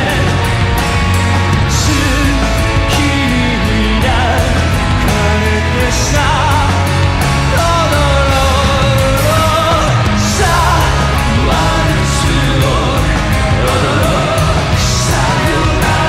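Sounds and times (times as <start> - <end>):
drums on cymbals: 0.0 - 16.0
live rock band playing: 0.0 - 16.0.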